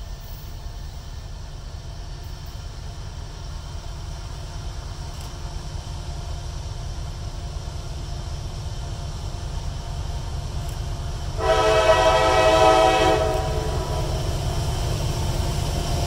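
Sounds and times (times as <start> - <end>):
distant diesel locomotives rumbling: 0.0 - 16.0.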